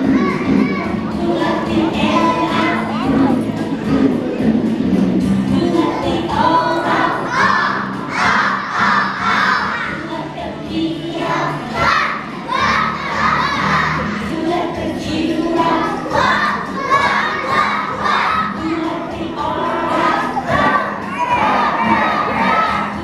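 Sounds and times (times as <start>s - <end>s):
children singing loudly: 0.0s - 4.7s, 5.4s - 23.0s.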